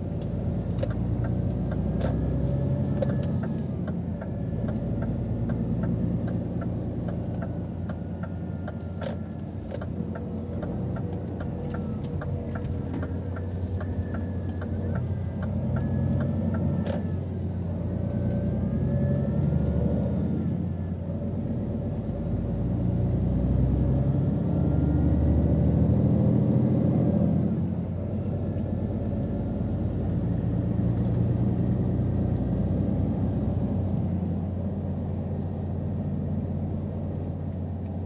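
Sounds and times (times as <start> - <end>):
truck diesel engine running: 0.0 - 38.0.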